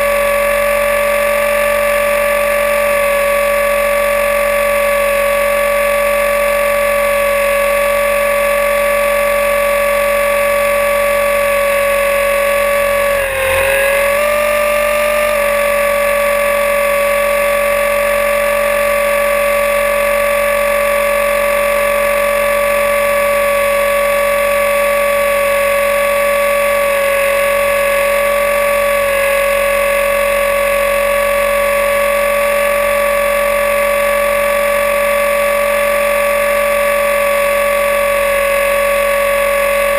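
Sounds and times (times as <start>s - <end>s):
electric helicopter motor whining: 0.0s - 39.9s.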